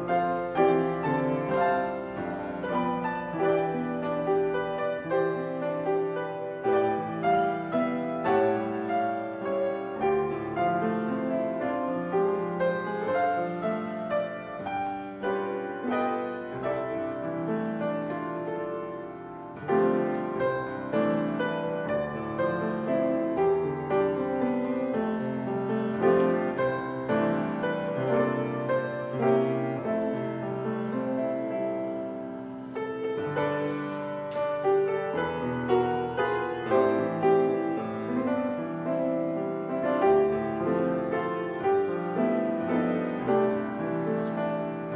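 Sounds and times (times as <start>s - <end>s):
slow classical piano piece: 0.0s - 44.9s.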